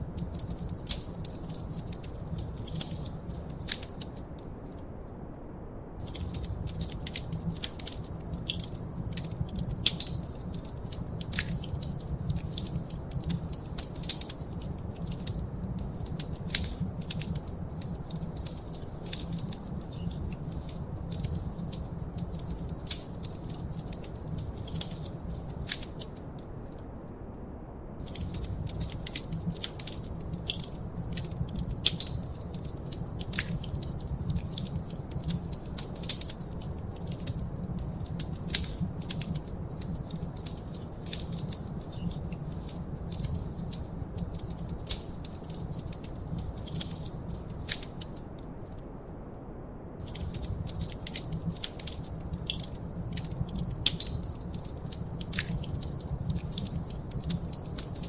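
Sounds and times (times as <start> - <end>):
wood fire crackling: 0.0 - 5.0, 6.0 - 27.0, 28.0 - 49.0, 50.0 - 58.0
low rumble of flame: 0.0 - 58.0.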